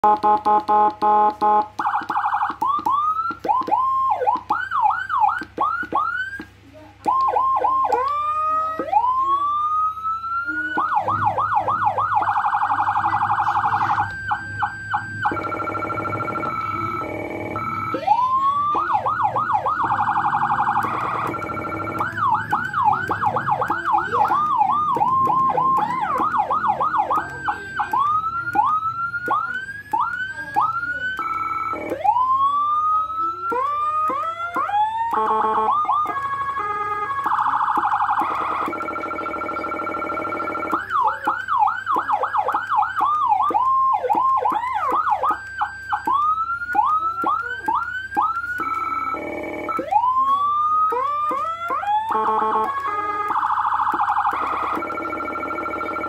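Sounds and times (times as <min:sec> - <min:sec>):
electronic siren tones: 0:00.0 - 0:56.0.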